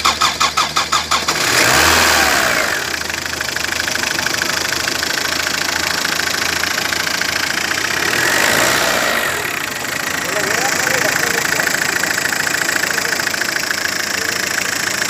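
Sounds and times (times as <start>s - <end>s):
diesel engine starting and idling: 0.0s - 15.0s.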